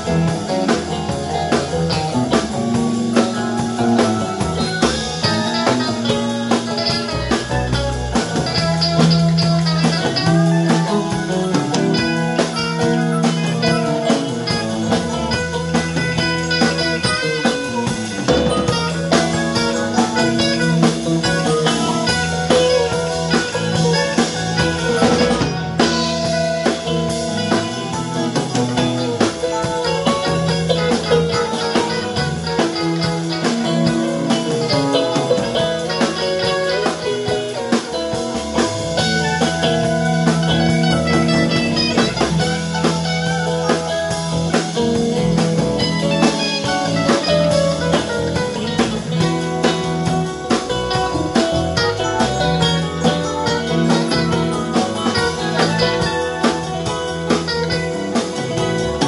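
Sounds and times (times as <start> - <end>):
drum kit: 0.0 - 59.0
electric bass: 0.0 - 59.0
electric guitars: 0.0 - 59.0
keyboard: 0.0 - 59.0.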